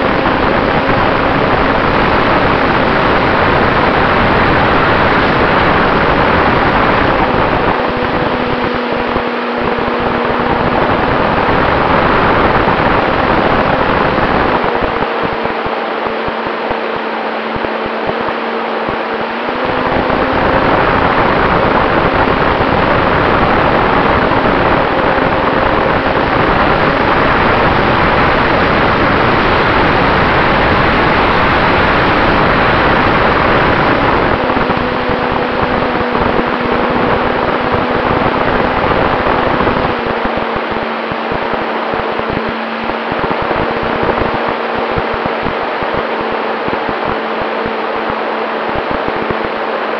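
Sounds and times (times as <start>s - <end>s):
wind rushing over airframe: 0.0s - 49.9s.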